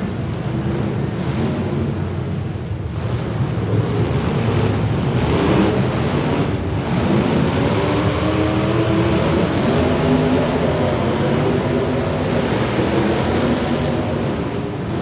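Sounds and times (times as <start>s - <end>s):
car engines revving: 0.0s - 15.0s
dense rushing noise: 0.0s - 15.0s.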